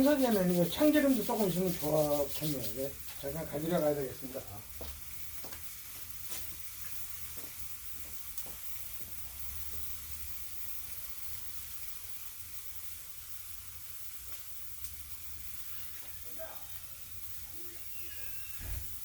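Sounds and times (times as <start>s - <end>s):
faint crackles: 0.0s - 19.0s
meat sizzling on a grill: 0.0s - 19.0s.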